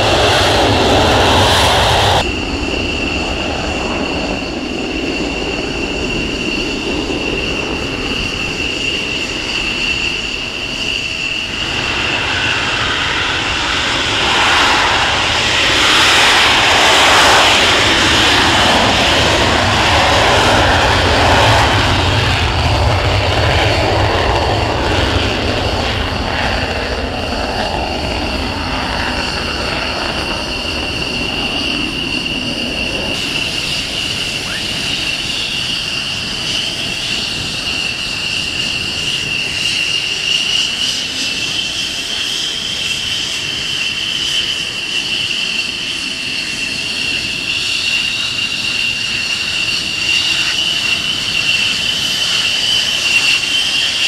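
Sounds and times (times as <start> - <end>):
jet engine rushing roar: 0.0 - 54.0
jet engine whine: 0.0 - 54.0.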